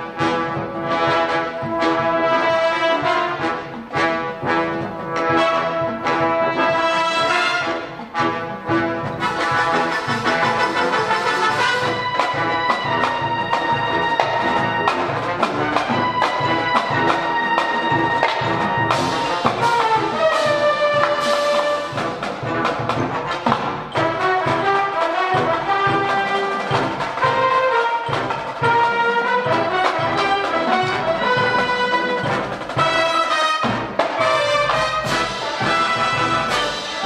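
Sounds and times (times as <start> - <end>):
brass playing melody: 0.0 - 37.0
marching snare and bass drums: 0.0 - 37.0.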